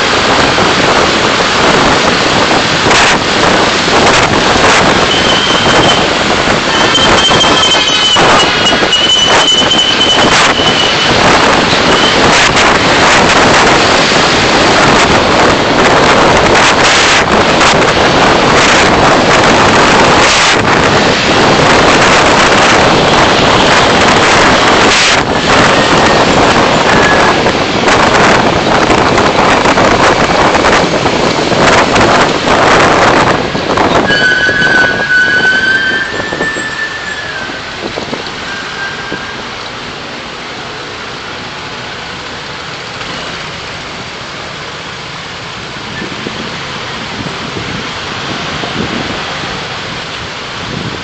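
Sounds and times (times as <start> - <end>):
road and wind rush: 0.0 - 51.0.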